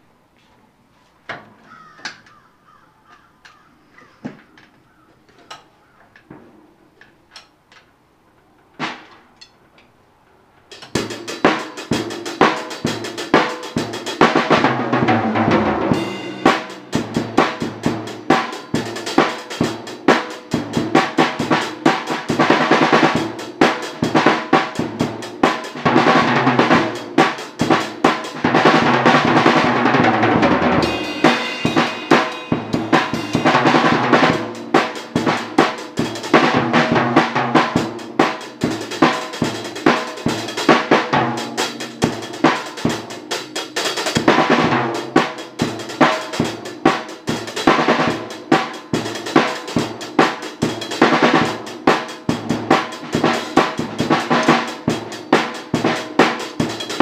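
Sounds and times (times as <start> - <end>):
drum kit playing fast: 10.7 - 57.0.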